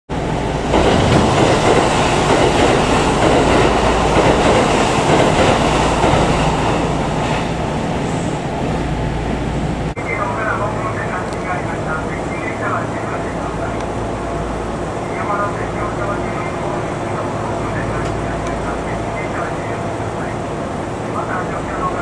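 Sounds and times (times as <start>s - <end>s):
train wheels rushing on rails: 0.2s - 22.0s.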